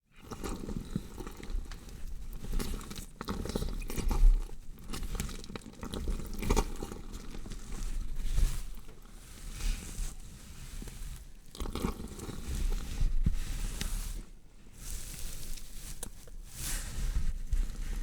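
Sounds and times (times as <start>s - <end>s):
wet crunching and squelching flesh: 0.2s - 14.0s, 14.8s - 18.0s.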